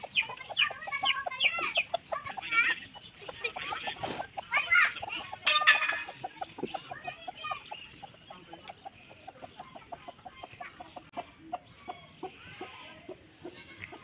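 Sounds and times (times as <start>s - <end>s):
chicken clucking: 0.0s - 14.0s.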